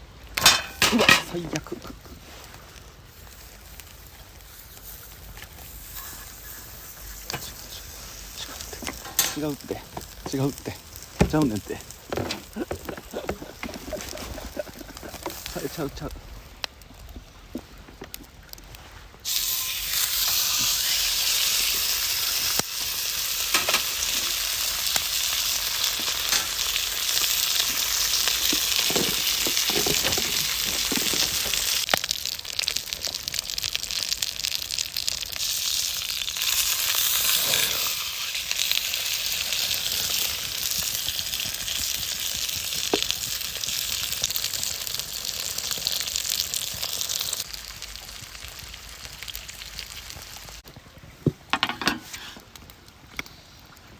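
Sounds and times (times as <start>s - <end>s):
fat popping and crackling: 0.0s - 20.8s, 22.4s - 53.9s
steak sizzling over fire: 0.0s - 53.9s.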